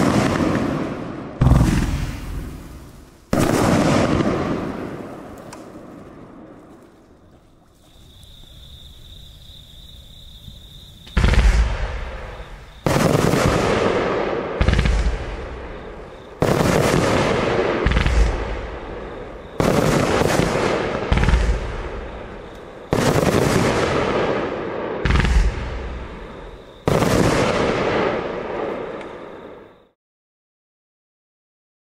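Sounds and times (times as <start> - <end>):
fireworks volleys: 0.0 - 6.8, 10.5 - 29.7.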